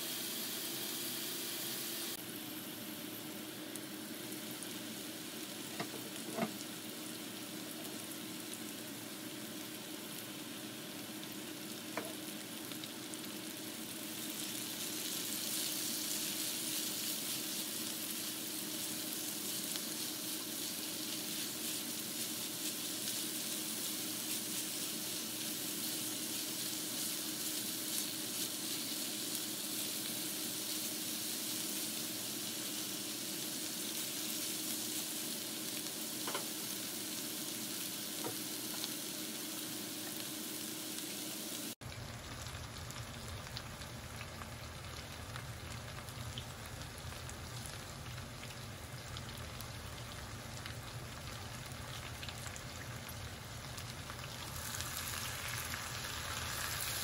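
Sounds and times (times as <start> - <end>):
vegetables sizzling in a skillet: 0.0 - 57.0.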